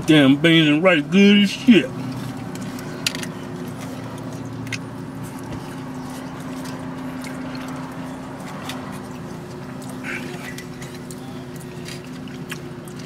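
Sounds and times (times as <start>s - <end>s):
low hum inside car: 0.0s - 13.0s
chewing: 1.9s - 13.0s.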